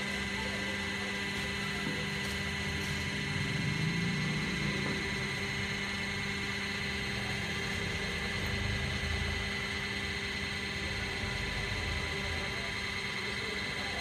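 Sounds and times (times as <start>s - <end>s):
blender motor humming and whining: 0.0s - 14.0s.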